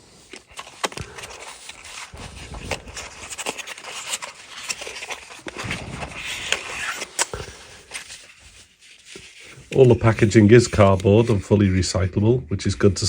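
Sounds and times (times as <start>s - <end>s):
cardboard scraping and rustling: 0.0s - 11.6s.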